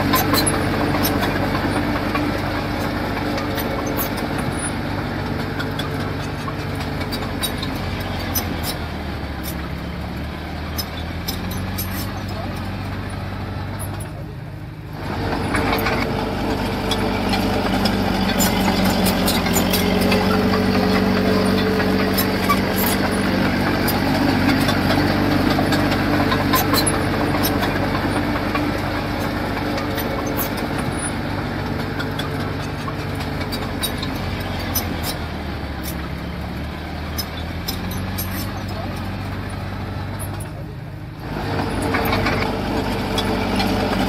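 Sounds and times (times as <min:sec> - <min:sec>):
faint clicks and clanks: 0:00.0 - 0:09.9, 0:10.7 - 0:14.4, 0:15.0 - 0:44.0
diesel engine running steadily: 0:00.0 - 0:44.0.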